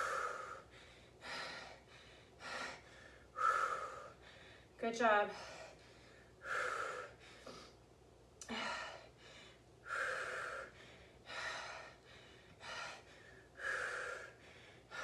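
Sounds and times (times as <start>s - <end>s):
woman breathing hard: 0.0s - 15.0s.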